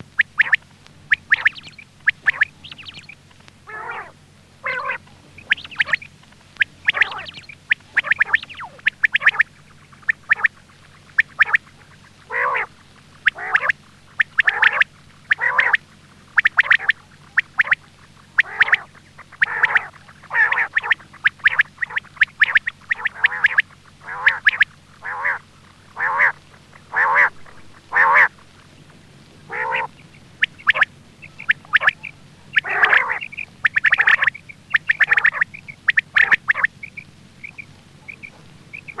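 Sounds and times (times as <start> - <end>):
faint low hum: 0.0 - 39.0
quail calls: 0.0 - 39.0.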